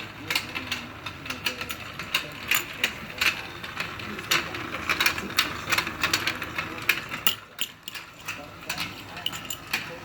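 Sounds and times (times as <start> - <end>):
plastic clicks and rattles: 0.0 - 10.0.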